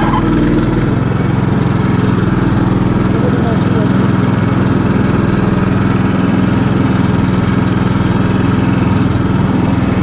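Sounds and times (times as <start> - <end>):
all-terrain vehicle engine running: 0.0 - 10.0.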